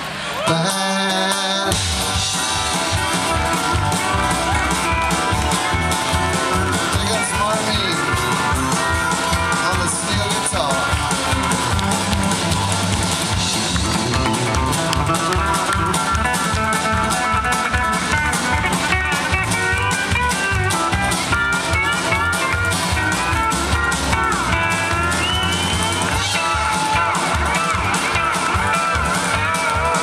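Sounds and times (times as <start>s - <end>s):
drum kit beat: 0.5s - 30.0s
strummed acoustic guitar: 0.5s - 30.0s.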